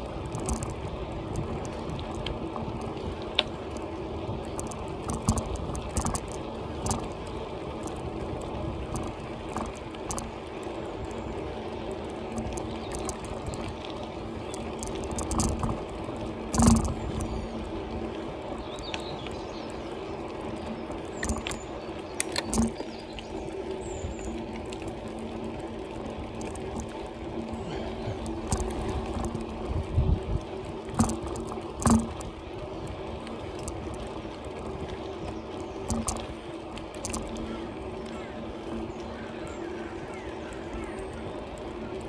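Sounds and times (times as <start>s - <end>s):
bike rattles and knocks: 0.0s - 39.6s
bicycle tyres on tarmac: 0.0s - 42.0s.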